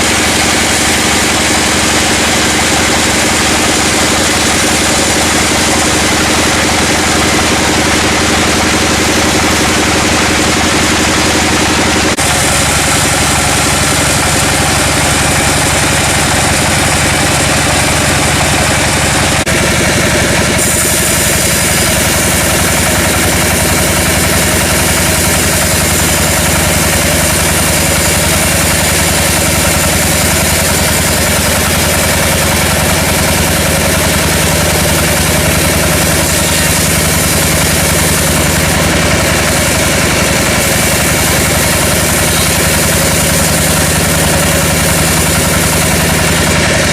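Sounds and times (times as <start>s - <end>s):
sawmill engine droning: 0.0s - 46.9s.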